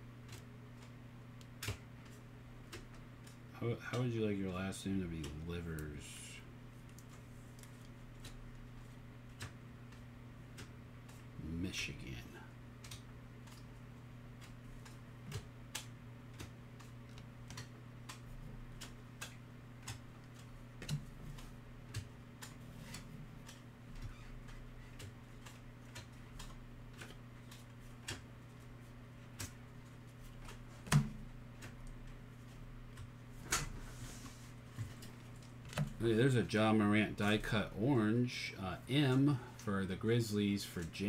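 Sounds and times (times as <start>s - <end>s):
low electrical hum: 0.0s - 41.0s
cards flicking with light clicks: 0.1s - 6.2s, 6.8s - 33.8s, 34.7s - 41.0s.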